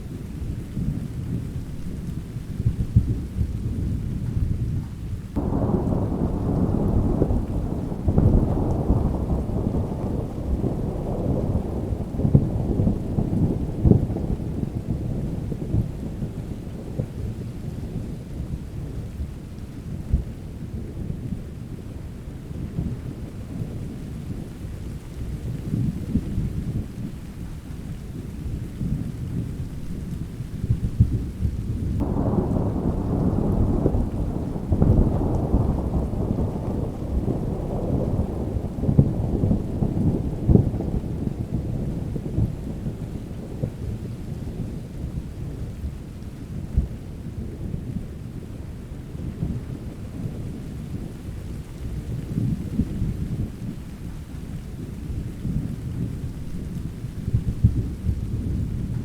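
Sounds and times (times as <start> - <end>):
deep rumbling thunder: 0.0 - 59.0
steady rain: 0.0 - 59.0.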